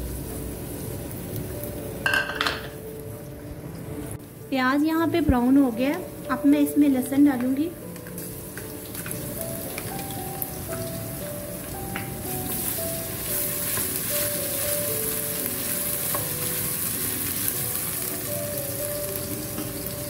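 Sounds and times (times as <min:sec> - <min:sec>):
onions sizzling in hot oil: 0:00.0 - 0:20.0
soft background music: 0:00.0 - 0:20.0.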